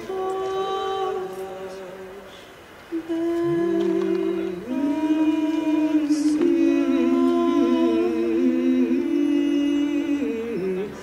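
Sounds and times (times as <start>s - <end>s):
women singing in harmony: 0.0s - 11.0s.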